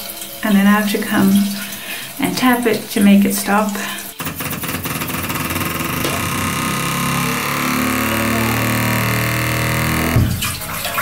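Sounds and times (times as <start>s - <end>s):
running water hiss: 0.0s - 11.0s
toilet cistern humming drone: 0.0s - 11.0s.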